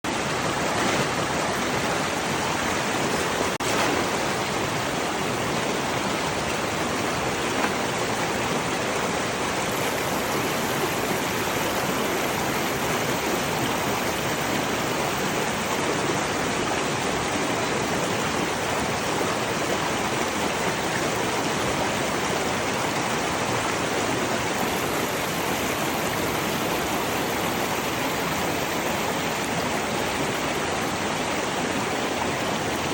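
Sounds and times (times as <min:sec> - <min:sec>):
rushing flowing water: 0:00.0 - 0:32.9.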